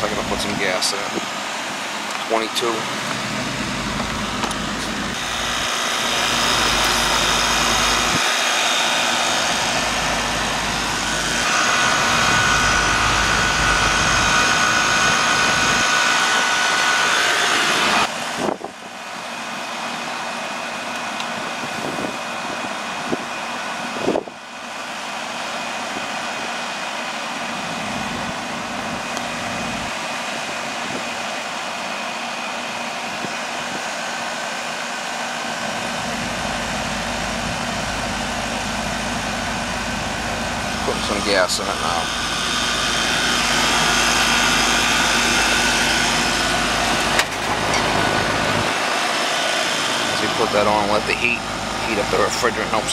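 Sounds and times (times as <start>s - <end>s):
air conditioner condenser running: 0.0s - 52.9s.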